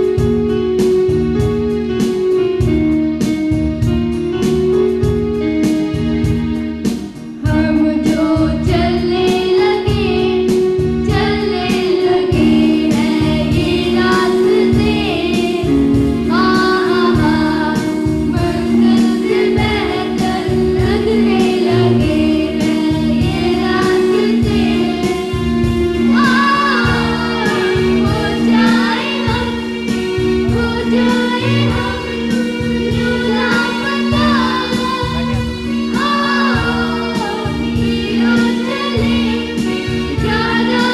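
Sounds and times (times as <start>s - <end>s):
instrumental accompaniment with beat: 0.0s - 40.9s
children singing together: 7.5s - 40.9s.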